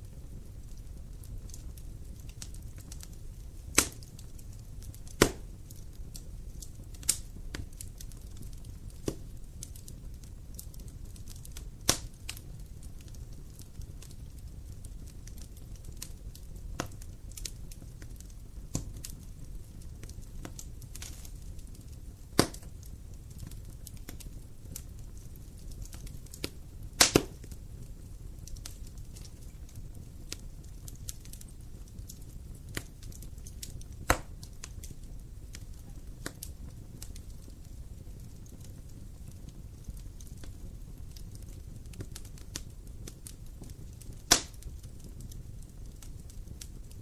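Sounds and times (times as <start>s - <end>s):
loud sharp snaps of fire: 0.0s - 47.0s
wood fire crackling: 0.0s - 47.0s.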